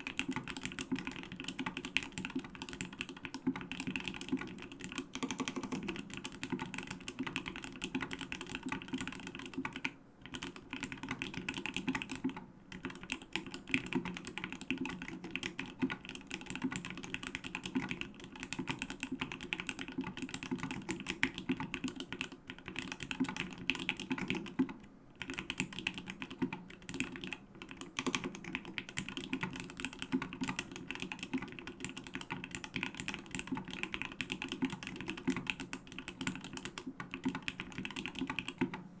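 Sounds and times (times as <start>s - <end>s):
mechanical keyboard typing: 0.0s - 38.8s.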